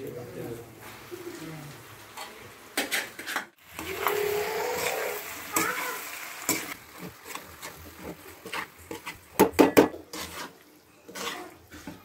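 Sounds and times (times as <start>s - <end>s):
utensil scraping a pan: 2.2s - 12.0s.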